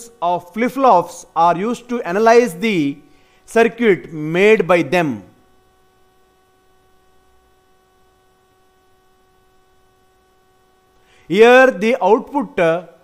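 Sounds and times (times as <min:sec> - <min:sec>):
electrical hum: 0:00.0 - 0:13.0
low hiss: 0:00.0 - 0:13.0.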